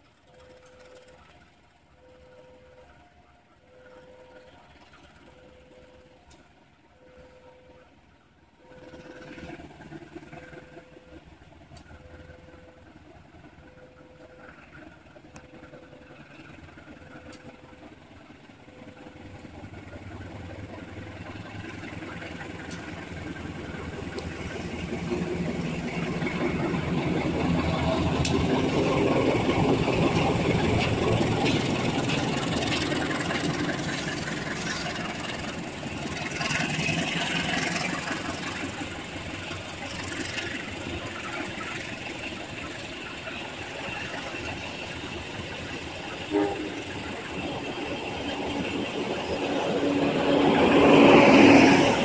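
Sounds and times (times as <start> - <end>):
diesel locomotive passing: 0.0 - 52.0.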